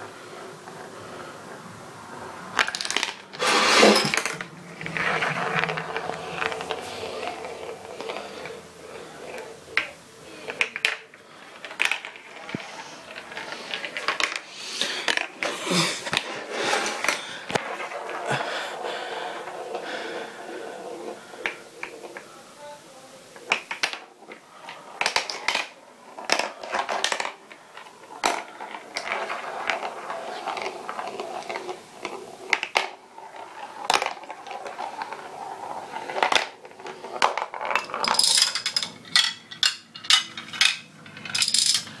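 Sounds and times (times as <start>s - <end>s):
marble rattling through plastic run: 2.5s - 22.7s, 23.3s - 42.0s.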